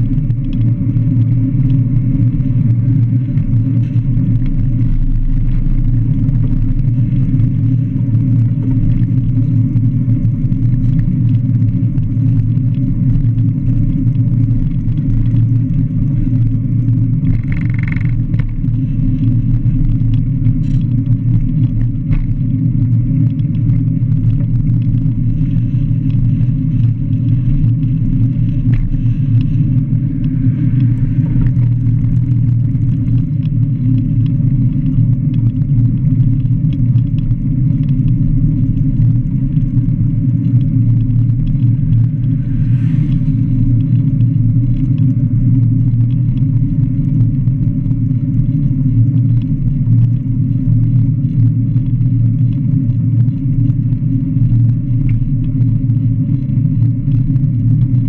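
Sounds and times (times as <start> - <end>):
tyre noise on asphalt: 0.0 - 58.0.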